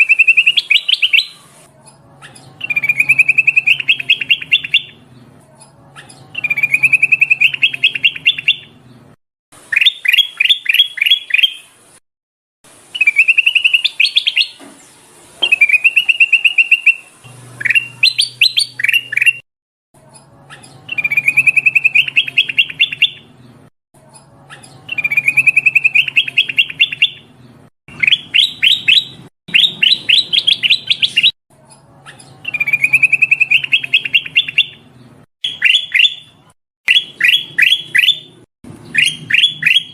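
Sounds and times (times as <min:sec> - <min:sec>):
bird singing: 0:00.0 - 0:01.5, 0:02.3 - 0:05.3, 0:06.0 - 0:09.1, 0:09.7 - 0:11.7, 0:13.0 - 0:19.4, 0:20.2 - 0:23.6, 0:24.5 - 0:31.4, 0:32.1 - 0:39.9.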